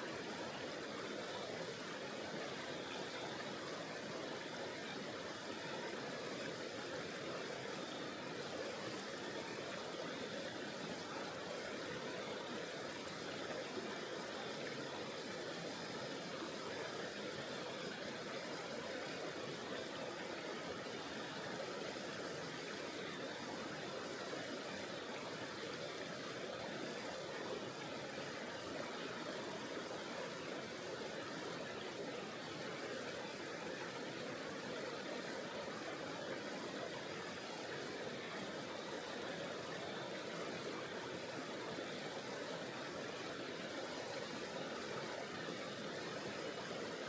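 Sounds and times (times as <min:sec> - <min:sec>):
mountain river rushing: 0:00.0 - 0:47.0.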